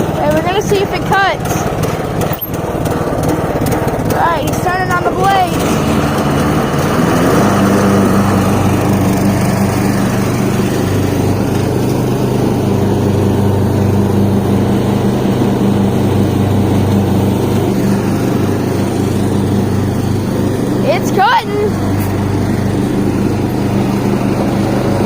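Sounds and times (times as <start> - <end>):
riding mower engine running: 0.0 - 25.0.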